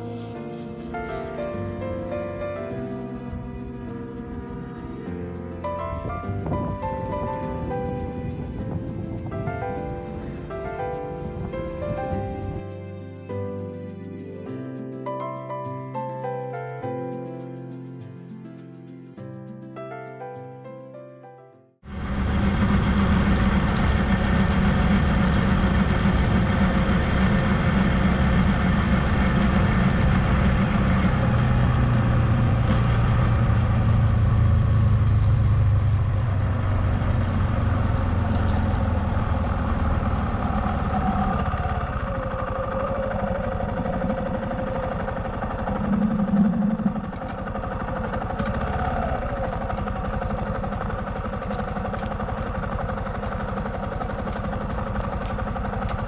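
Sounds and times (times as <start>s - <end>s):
motorcycle engine running: 0.0s - 12.8s, 21.8s - 56.0s.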